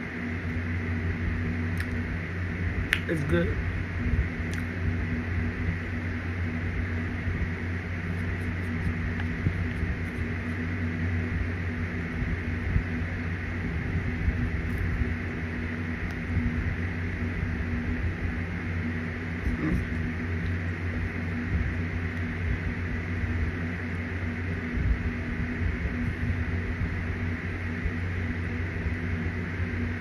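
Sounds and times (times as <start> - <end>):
fan humming with high whine: 0.0 - 30.0.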